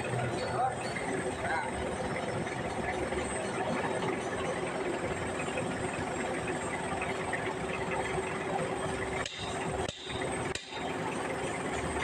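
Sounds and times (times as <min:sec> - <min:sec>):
forklift engine idling: 0:00.0 - 0:12.0.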